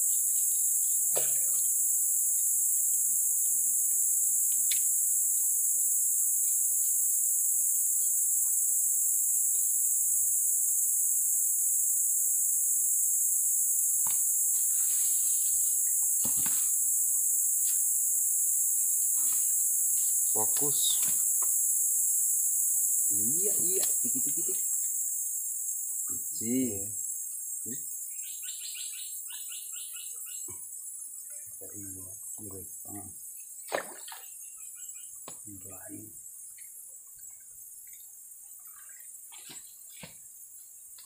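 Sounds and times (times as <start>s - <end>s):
high-pitched insect chorus drone: 0.0s - 41.0s.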